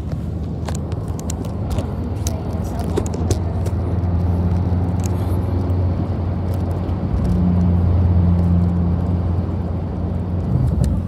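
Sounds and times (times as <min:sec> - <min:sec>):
car road and engine drone: 0:00.0 - 0:11.0.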